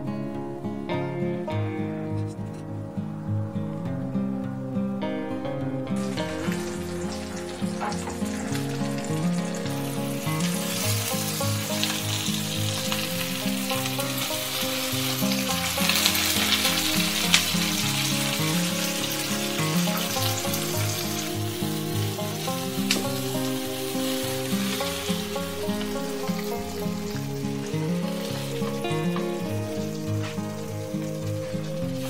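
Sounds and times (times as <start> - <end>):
peppers sizzling in hot oil: 6.0 - 32.0.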